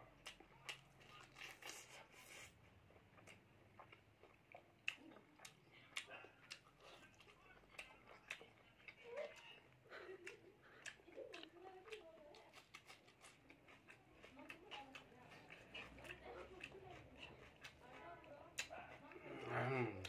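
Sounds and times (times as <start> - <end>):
chewing food: 0.0 - 20.0.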